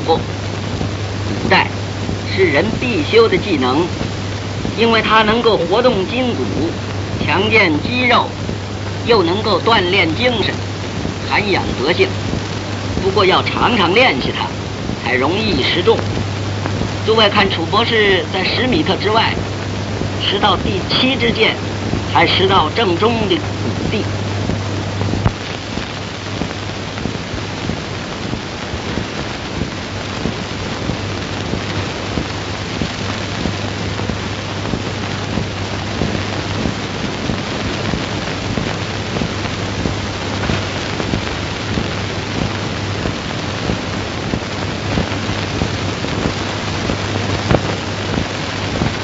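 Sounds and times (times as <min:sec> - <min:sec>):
dense crackle: 0:00.0 - 0:49.0
film soundtrack hiss: 0:00.0 - 0:49.0.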